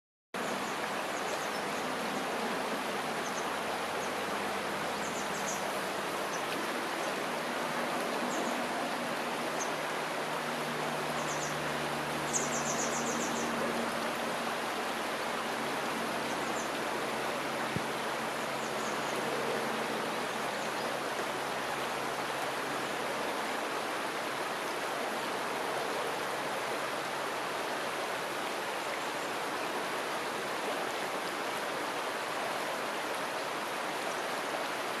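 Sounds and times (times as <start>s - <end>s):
river water rushing: 0.4s - 35.0s.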